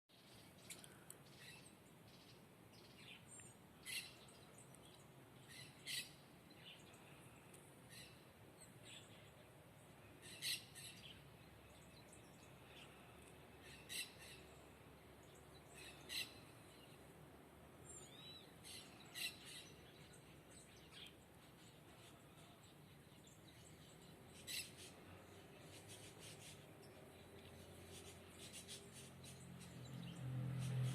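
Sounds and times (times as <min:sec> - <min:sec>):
small birds chirping: 0:00.1 - 0:30.9.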